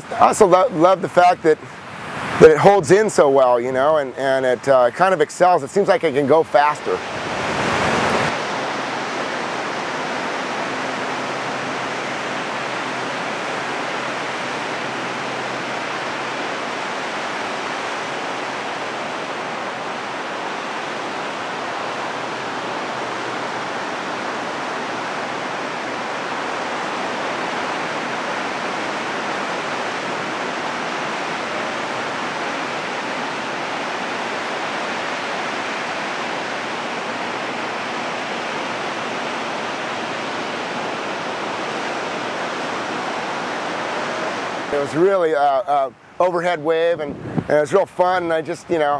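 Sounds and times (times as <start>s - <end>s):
ocean surf breaking: 0.0s - 48.9s.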